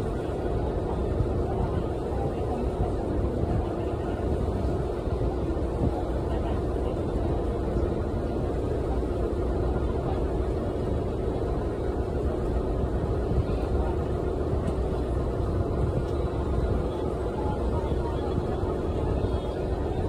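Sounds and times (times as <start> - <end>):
boat engine drone: 0.0 - 20.0
rushing water: 0.0 - 20.0
wind: 0.0 - 20.0.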